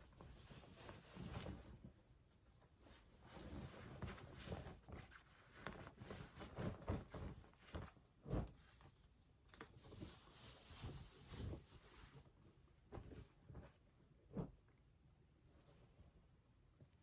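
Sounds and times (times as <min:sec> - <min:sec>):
clothing fabric rustling: 0:00.1 - 0:14.6.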